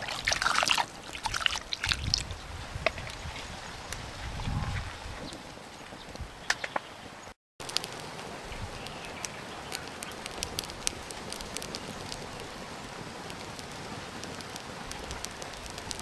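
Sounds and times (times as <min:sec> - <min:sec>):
wood fire crackling: 0:00.0 - 0:04.2, 0:05.0 - 0:16.0.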